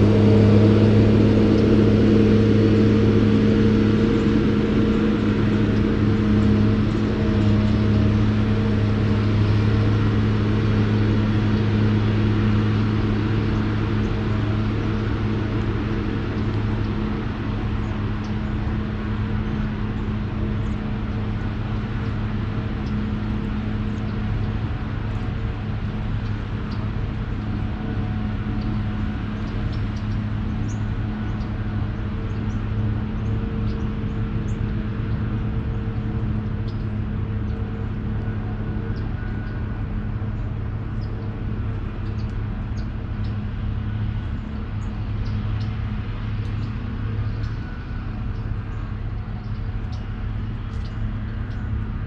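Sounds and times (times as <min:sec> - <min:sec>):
low motor hum: 0:00.0 - 0:52.0.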